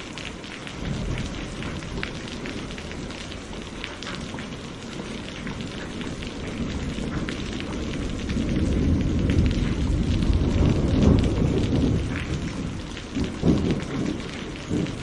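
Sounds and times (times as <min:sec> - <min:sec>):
steady rain: 0:00.0 - 0:15.0
low rumble of thunder: 0:00.5 - 0:15.0.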